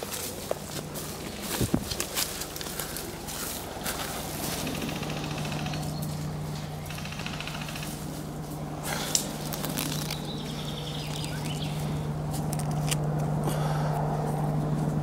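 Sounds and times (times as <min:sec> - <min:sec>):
footsteps through undergrowth: 0:00.0 - 0:15.0
steady low hum: 0:00.0 - 0:15.0.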